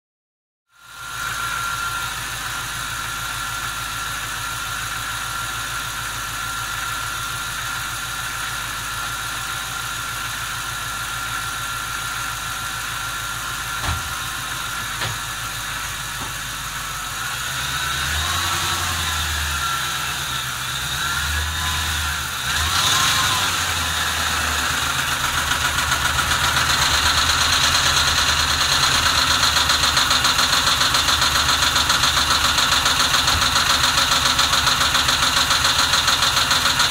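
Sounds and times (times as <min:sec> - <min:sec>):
car engine idling rough: 0:00.8 - 0:36.9.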